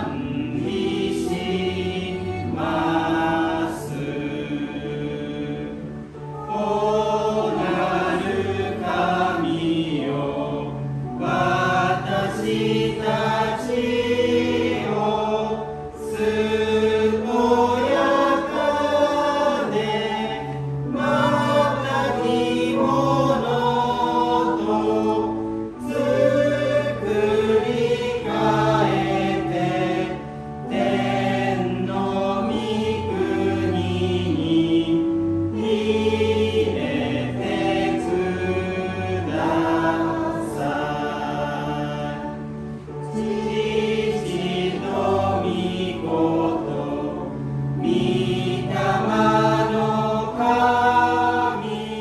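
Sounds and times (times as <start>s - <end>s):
congregation singing a hymn: 0.0s - 52.0s
held accompaniment notes: 0.0s - 52.0s.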